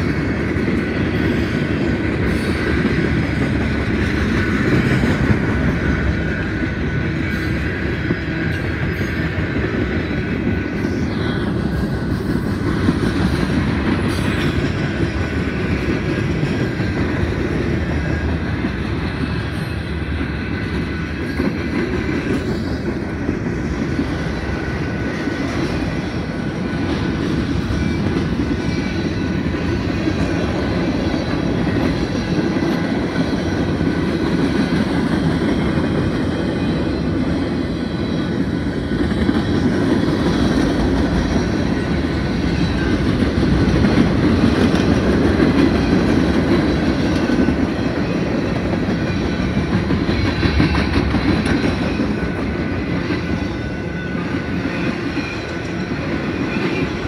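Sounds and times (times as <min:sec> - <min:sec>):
rail joints clickety-clack: 0:00.0 - 0:57.0
train wheels rumbling on rails: 0:00.0 - 0:57.0.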